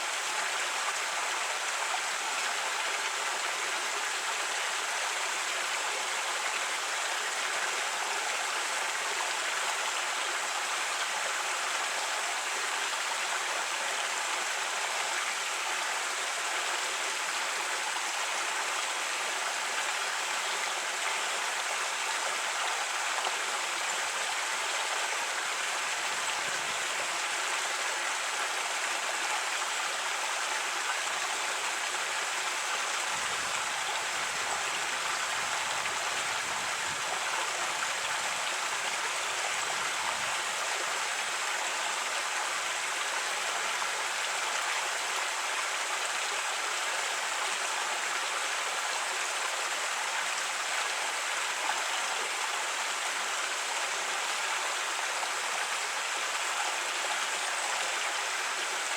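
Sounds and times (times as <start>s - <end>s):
creek water over rocks: 0.0s - 58.9s.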